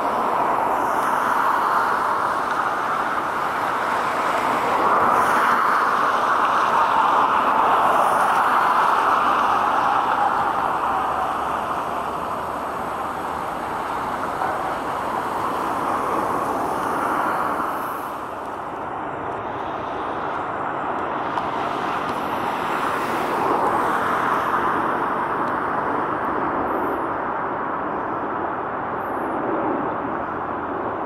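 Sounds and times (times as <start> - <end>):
distant jet engines roaring: 0.0 - 31.0.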